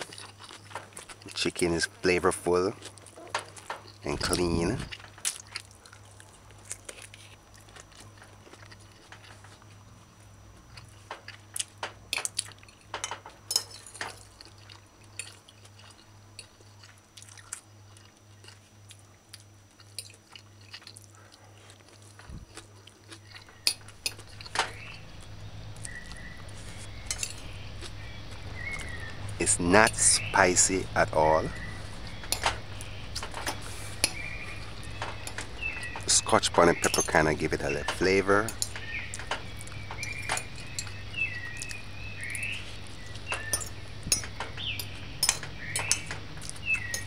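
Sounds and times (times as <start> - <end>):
person chewing: 0.0 - 1.4, 2.8 - 12.9, 14.0 - 30.9, 37.6 - 47.0
low steady hum: 0.0 - 47.0.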